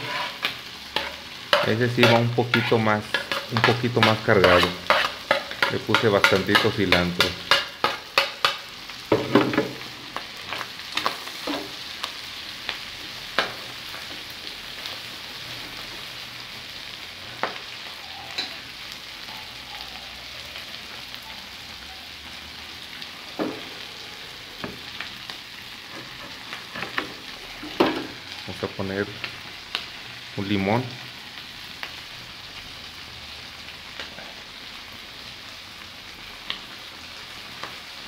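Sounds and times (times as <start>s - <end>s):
meat sizzling in a pot: 0.0s - 38.0s.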